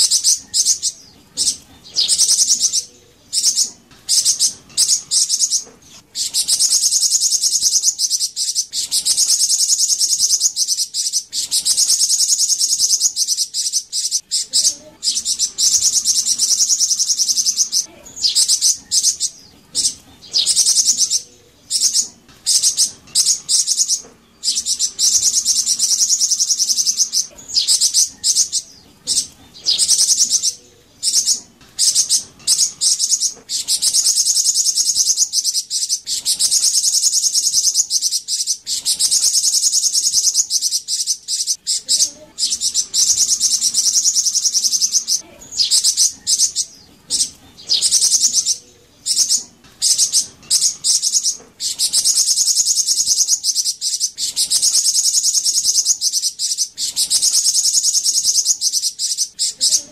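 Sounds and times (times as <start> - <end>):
bird singing buzzing trills: 0.0 - 59.9.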